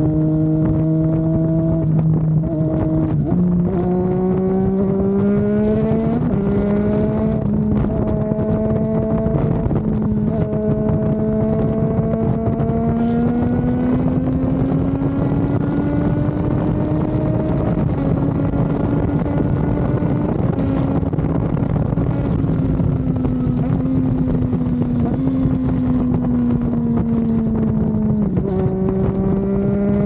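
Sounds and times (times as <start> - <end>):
motorcycle engine revving: 0.0 - 30.0
wind on microphone: 0.0 - 30.0.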